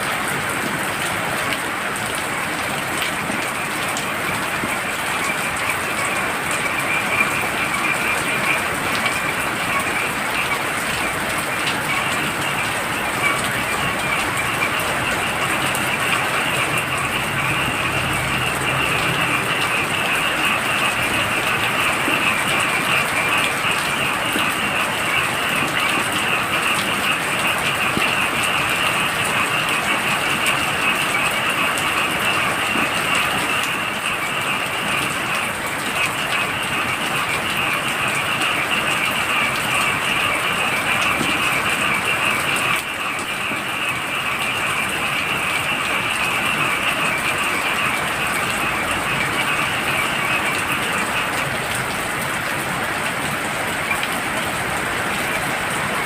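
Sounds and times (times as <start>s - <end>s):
heavy rain falling: 0.0s - 56.0s
frogs trilling: 2.0s - 56.0s.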